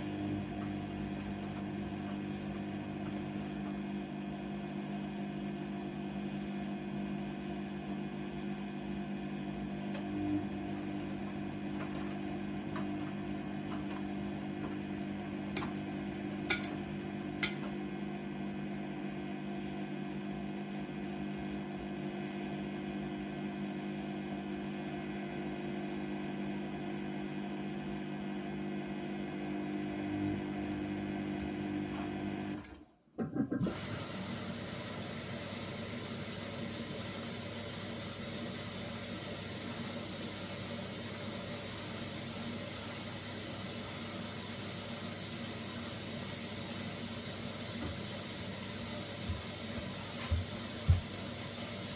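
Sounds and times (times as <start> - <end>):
washing machine motor hum: 0.0 - 51.9.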